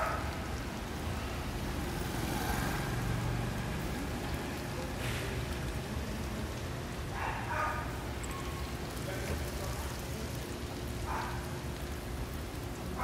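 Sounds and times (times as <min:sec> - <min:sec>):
hot oil sizzling in fryer: 0:00.0 - 0:13.0.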